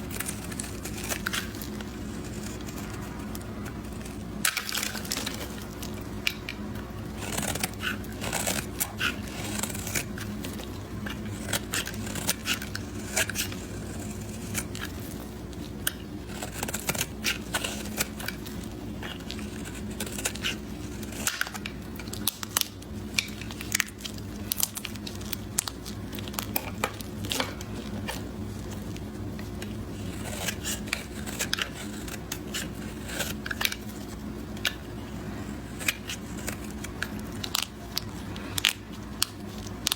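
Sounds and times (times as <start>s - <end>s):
blade cutting dry soap: 0.0s - 39.9s
soap crackling and snapping: 0.0s - 39.9s.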